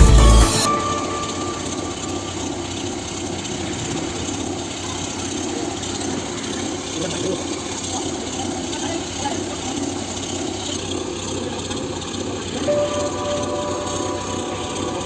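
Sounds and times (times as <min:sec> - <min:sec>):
water pump engine running: 0:00.0 - 0:15.0.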